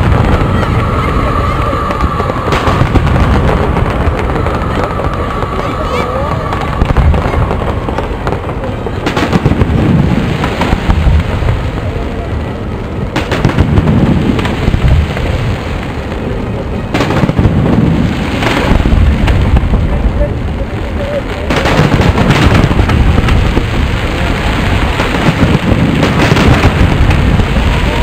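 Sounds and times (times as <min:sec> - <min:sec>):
sharp firework bangs: 0:00.0 - 0:11.8, 0:13.1 - 0:15.3, 0:16.9 - 0:20.0, 0:21.4 - 0:28.0
rumble of firework bursts: 0:00.0 - 0:28.0.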